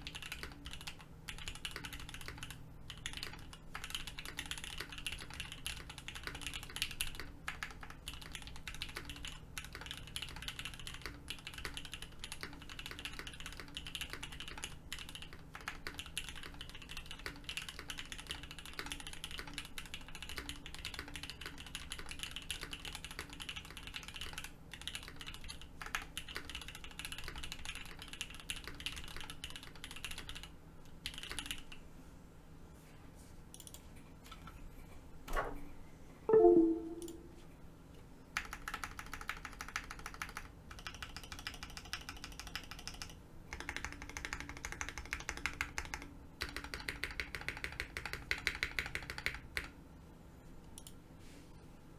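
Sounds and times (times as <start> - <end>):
mechanical keyboard typing: 0.0 - 31.8, 38.4 - 49.8.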